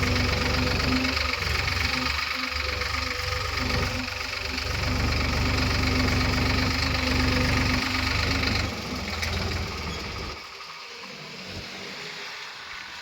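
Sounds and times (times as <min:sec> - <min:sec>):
heavy diesel engine rumbling: 0:00.0 - 0:12.9.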